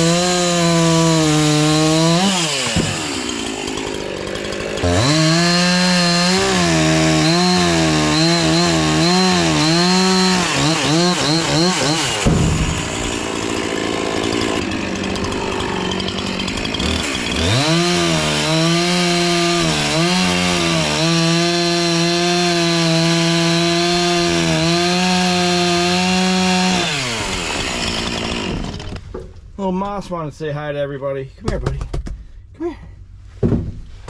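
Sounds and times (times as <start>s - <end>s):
chainsaw cutting wood: 0.0s - 29.2s.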